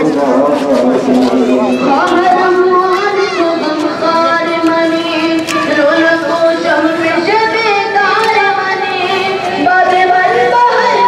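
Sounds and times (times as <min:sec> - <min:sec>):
high voice singing mourning chant: 0:00.0 - 0:11.0.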